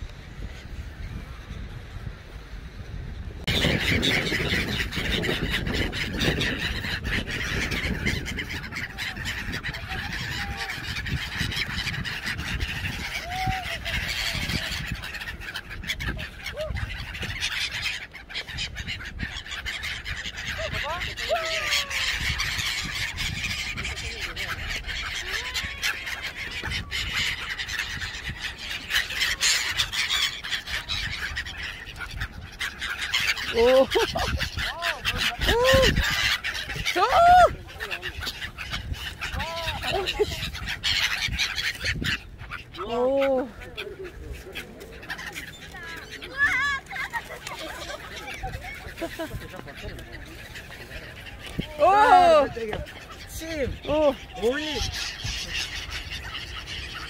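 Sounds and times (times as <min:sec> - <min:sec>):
flock of gulls calling: 0:00.0 - 0:57.0.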